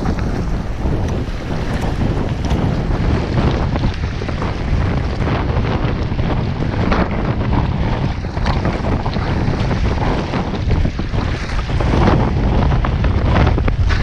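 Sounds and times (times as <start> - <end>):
waves splashing against kayak: 0.0 - 14.0
wind buffeting microphone: 0.0 - 14.0.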